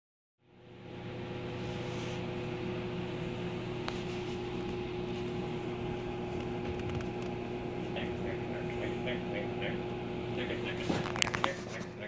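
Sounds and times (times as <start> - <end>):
machine hum: 0.4 - 12.0.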